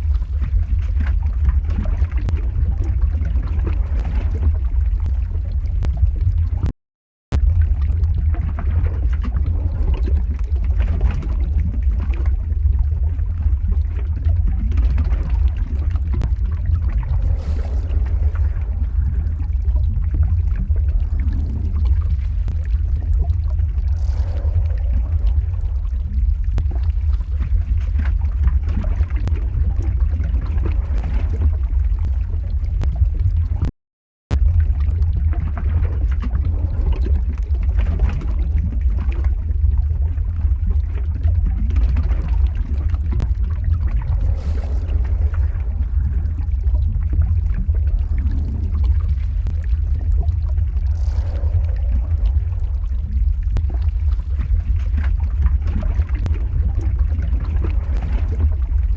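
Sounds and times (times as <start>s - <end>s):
lava flow rumble: 0.0s - 6.7s, 7.3s - 33.7s, 34.3s - 58.9s.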